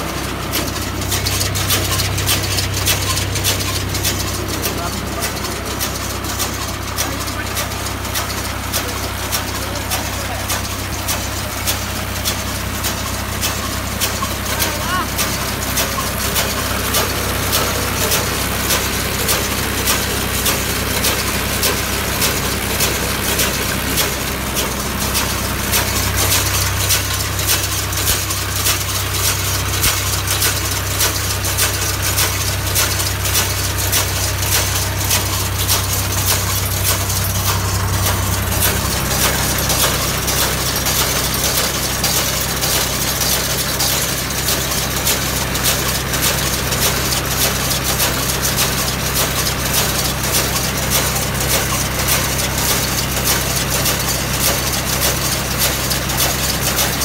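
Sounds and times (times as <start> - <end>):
baler metallic clatter: 0.0 - 57.0
tractor diesel engine running: 0.0 - 57.0.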